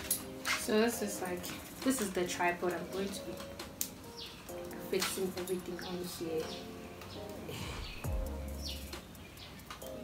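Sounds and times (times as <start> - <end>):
background music with deep bass: 0.0 - 10.0.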